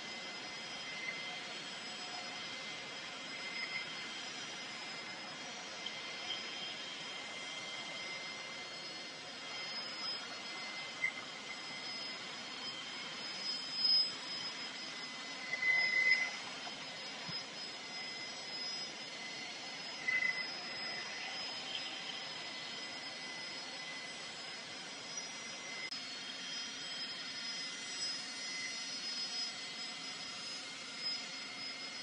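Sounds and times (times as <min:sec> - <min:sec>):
distant jet engines running: 0:00.0 - 0:25.8.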